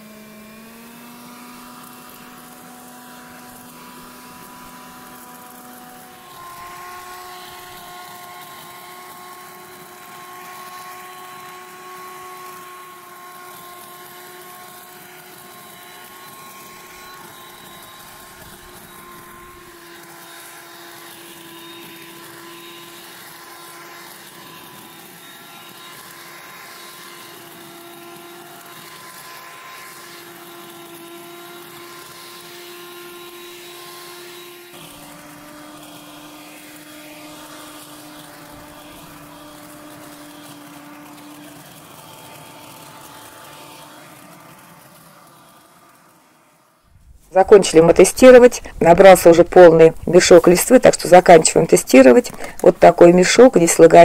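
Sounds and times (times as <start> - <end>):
leaf blower vacuum motor whine: 0.0 - 54.0.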